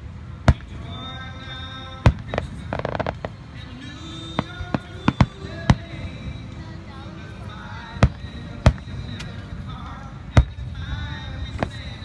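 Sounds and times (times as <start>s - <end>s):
fireworks bangs: 0.0s - 6.4s, 7.8s - 12.0s
background music: 0.0s - 12.0s
fireworks crackling: 0.0s - 12.0s.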